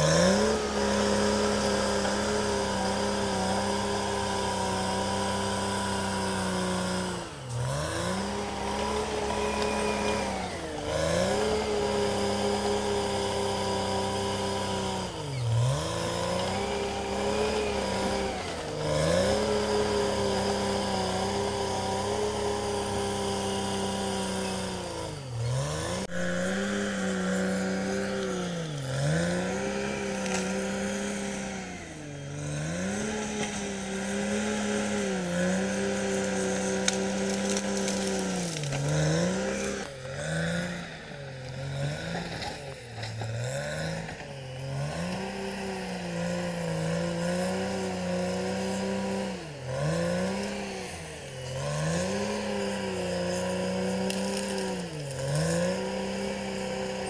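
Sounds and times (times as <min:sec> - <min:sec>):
bulldozer diesel engine lugging: 0:00.0 - 0:57.0.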